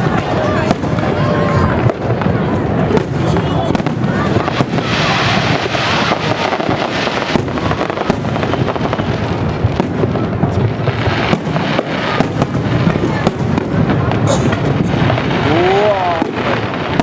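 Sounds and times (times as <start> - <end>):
fireworks booming: 0.0 - 17.0
fireworks crackling and popping: 0.0 - 17.0.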